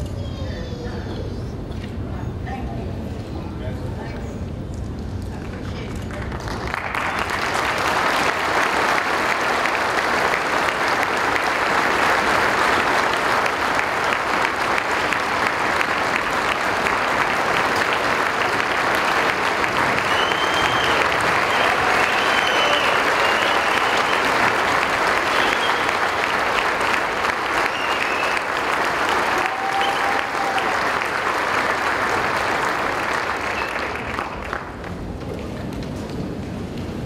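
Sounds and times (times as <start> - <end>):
audience applauding: 6.1 - 35.8.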